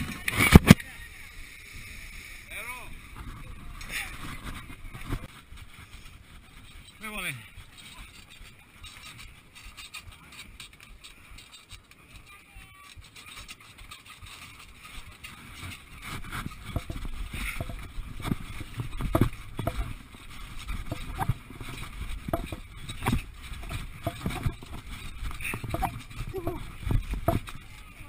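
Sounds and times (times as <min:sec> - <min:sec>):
camera rubbing and knocking: 0:00.0 - 0:00.9, 0:02.9 - 0:28.0
running footsteps on grass: 0:02.8 - 0:28.0.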